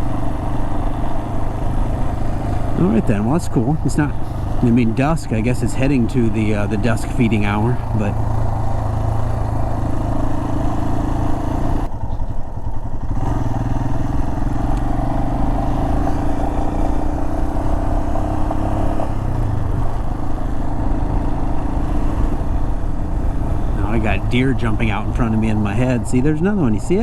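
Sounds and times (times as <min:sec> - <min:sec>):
motorcycle engine running: 0:00.0 - 0:27.0
road and wind noise: 0:00.0 - 0:27.0.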